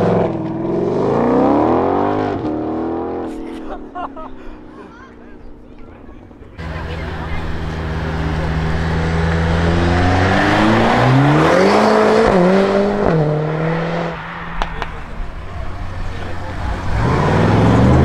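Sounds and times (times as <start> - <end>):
car engine revving and accelerating: 0.0 - 3.4, 6.6 - 18.0.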